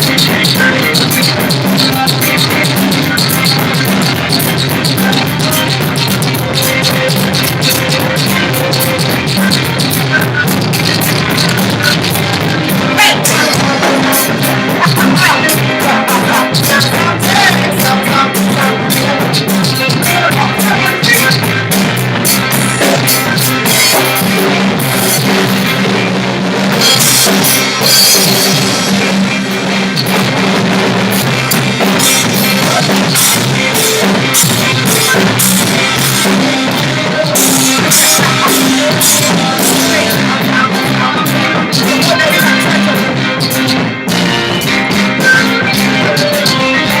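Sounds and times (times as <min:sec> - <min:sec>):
drum kit and cymbals: 0:00.0 - 0:47.0
live rock band playing: 0:00.0 - 0:47.0
steady bass line: 0:00.0 - 0:47.0.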